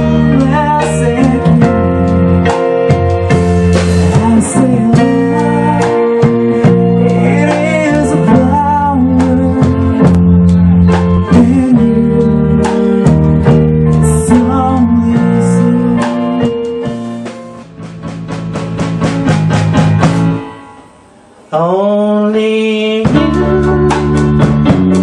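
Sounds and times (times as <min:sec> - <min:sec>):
bass guitar: 0:00.0 - 0:25.0
drum kit with cymbals: 0:00.0 - 0:25.0
electric guitar: 0:00.0 - 0:25.0
sliding melody line: 0:00.0 - 0:25.0.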